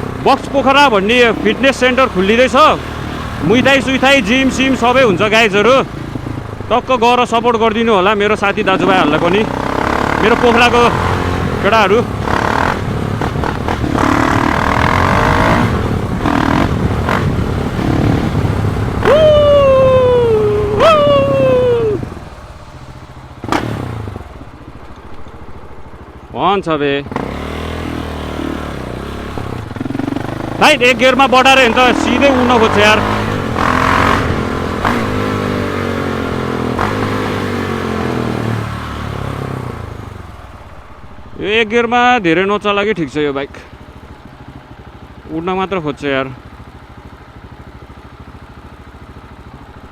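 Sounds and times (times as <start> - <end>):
sharp exhaust cracks: 0.0 - 19.3, 21.9 - 49.6
engine revving: 0.0 - 44.2
motorcycle engine running roughly: 0.0 - 49.9.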